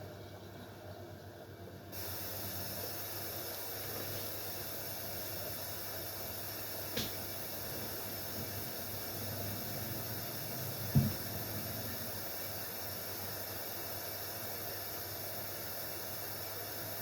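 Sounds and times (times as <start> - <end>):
washing machine hum: 0.0 - 17.0.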